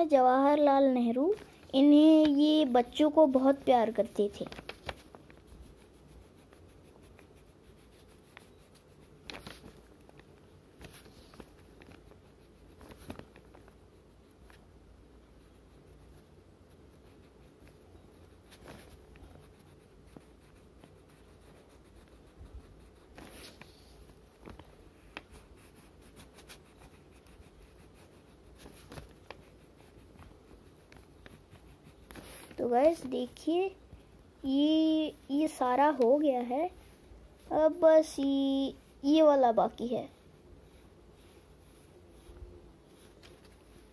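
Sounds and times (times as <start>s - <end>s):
crayon scratching on paper: 0.0s - 33.8s, 34.4s - 43.9s
low steady hum: 0.0s - 43.9s.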